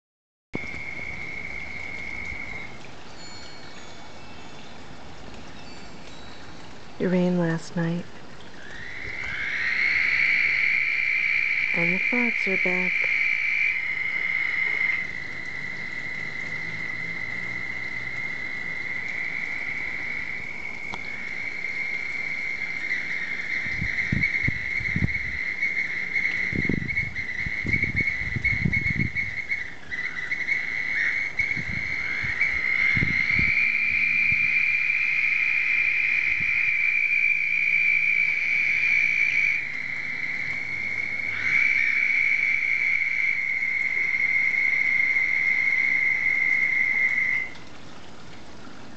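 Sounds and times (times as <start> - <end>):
frogs trilling: 0.6 - 48.2.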